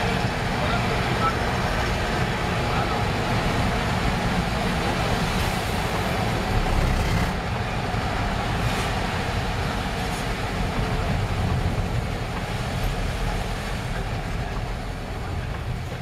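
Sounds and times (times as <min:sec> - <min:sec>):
vehicle rumble and tyre hiss on wet road: 0:00.0 - 0:16.0.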